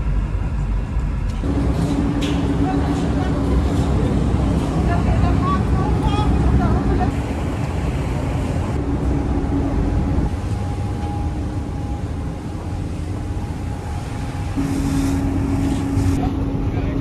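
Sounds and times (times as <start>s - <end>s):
ship engines droning: 0.0s - 17.0s
water rushing along hull: 0.0s - 17.0s.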